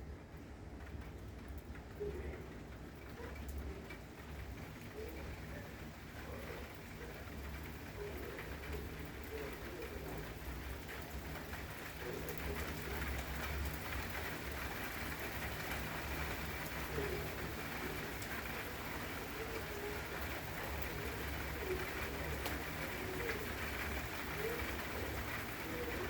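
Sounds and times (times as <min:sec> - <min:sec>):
rain falling: 0:00.0 - 0:26.0
raindrops ticking: 0:00.0 - 0:26.0.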